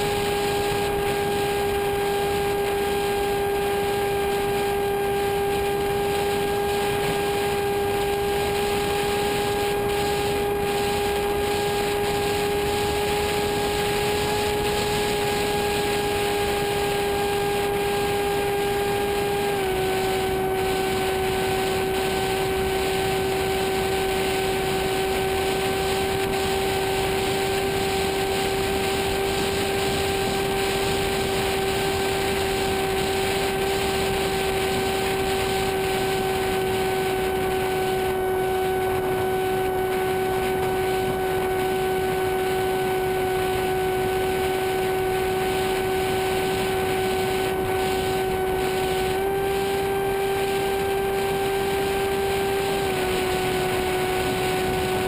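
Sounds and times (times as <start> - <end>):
motor and propeller whine: 0.0 - 55.0.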